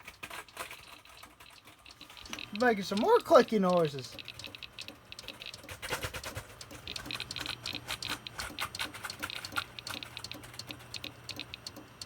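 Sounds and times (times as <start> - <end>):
low computer hum: 0.0 - 12.0
rapid computer clicking: 0.0 - 12.0.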